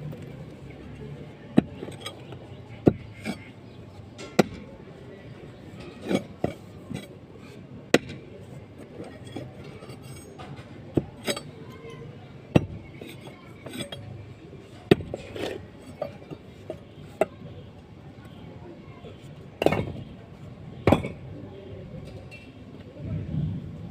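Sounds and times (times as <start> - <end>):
low background noise: 0.0 - 23.9.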